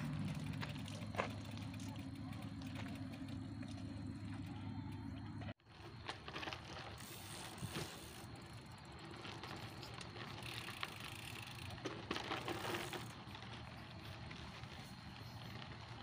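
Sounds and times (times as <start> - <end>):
bike rattling over bumps: 0.0 - 16.0
bike tyres rushing on dirt: 0.0 - 16.0.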